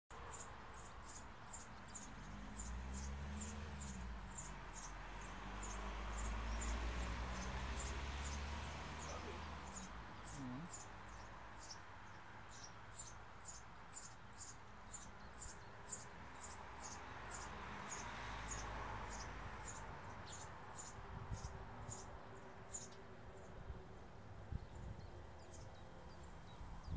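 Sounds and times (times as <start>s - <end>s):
nestlings begging chirps: 0.2s - 23.6s.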